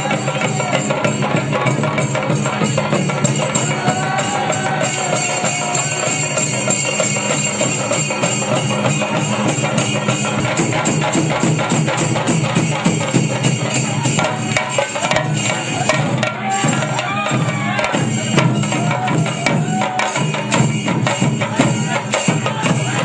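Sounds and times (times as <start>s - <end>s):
drum ensemble beating fast: 0.0s - 23.0s.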